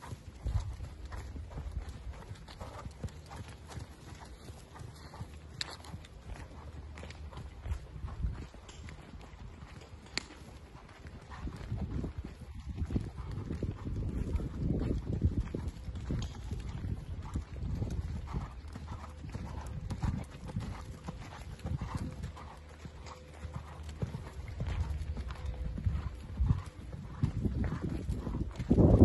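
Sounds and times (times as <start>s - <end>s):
hoofbeats on sand: 0.0s - 29.0s.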